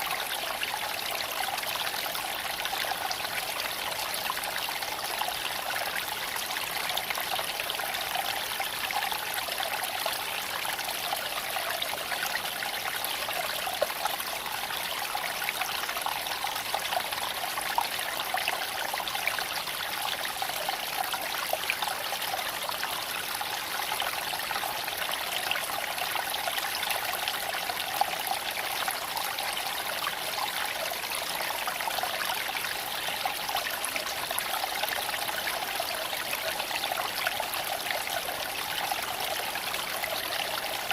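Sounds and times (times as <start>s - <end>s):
creek babbling over stones: 0.0s - 40.9s.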